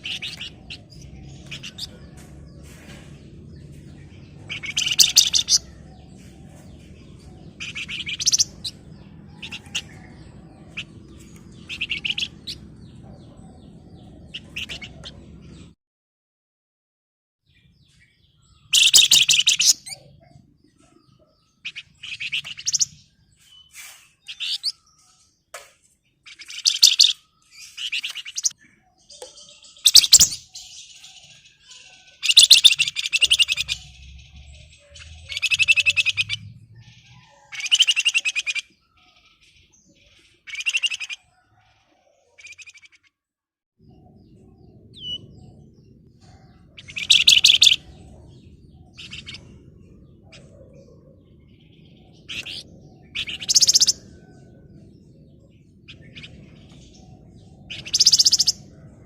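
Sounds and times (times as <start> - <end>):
songbird trilling: 0.0 - 2.2, 3.8 - 15.3, 18.6 - 25.1, 26.3 - 39.4, 40.0 - 41.3, 43.9 - 55.1, 55.8 - 58.8.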